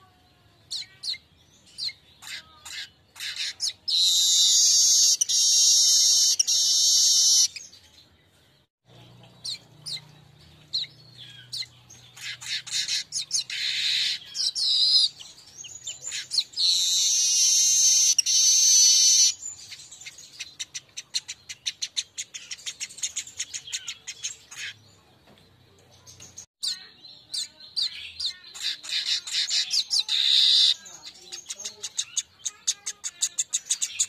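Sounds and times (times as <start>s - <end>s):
weaver bird song: 0.0s - 34.0s.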